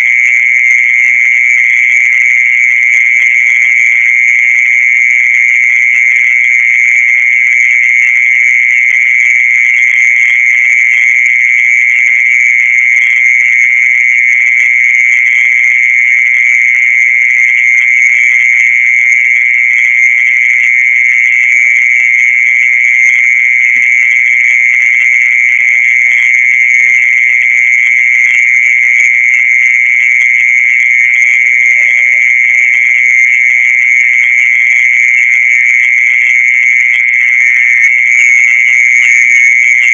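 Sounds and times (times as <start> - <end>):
mole cricket trilling: 0.0 - 39.9.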